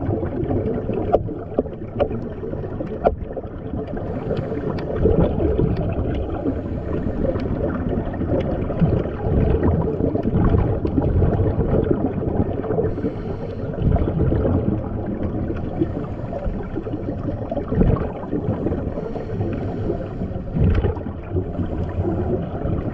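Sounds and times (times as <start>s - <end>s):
deep underwater rumble: 0.0s - 22.9s.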